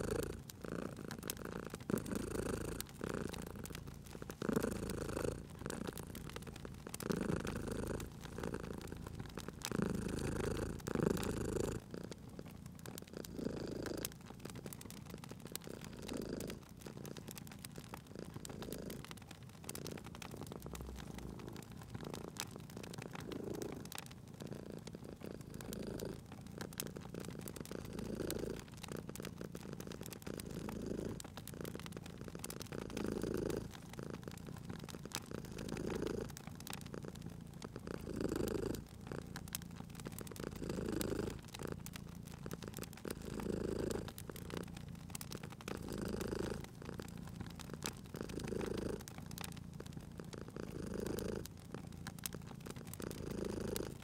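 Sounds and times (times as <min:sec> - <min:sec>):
cat purring: 0:00.0 - 0:54.0
wood fire crackling: 0:00.0 - 0:54.0.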